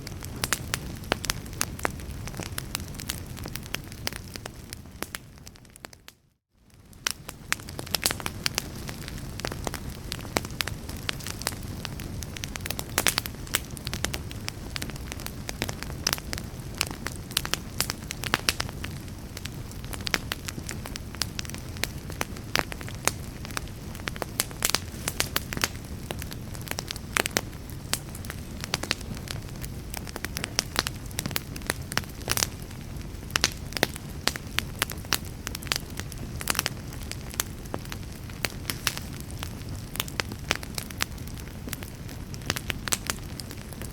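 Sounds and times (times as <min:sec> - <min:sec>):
fireplace fire crackling: 0:00.0 - 0:43.9
low rumble of flames: 0:00.0 - 0:43.9.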